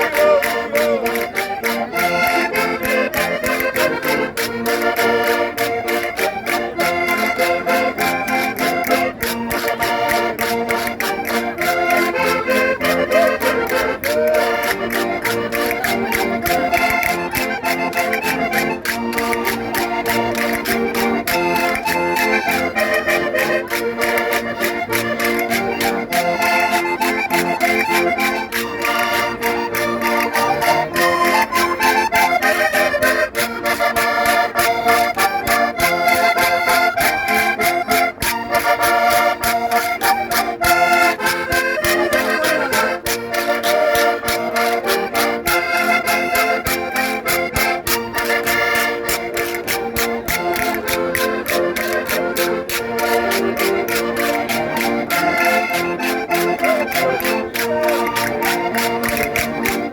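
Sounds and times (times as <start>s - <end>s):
concertinas playing folk dance tune: 0.0s - 59.9s
short clicks beat: 0.0s - 59.9s.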